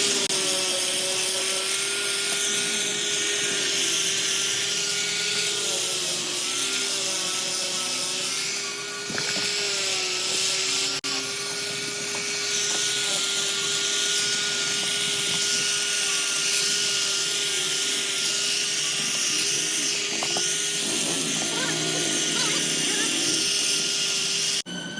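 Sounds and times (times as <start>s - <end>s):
electric power tool whining: 0.0s - 24.9s.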